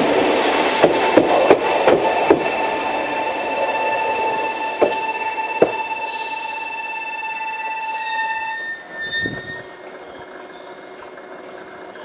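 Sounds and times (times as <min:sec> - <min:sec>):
train low rumble: 0:00.0 - 0:12.0
train brakes squealing: 0:01.0 - 0:10.8.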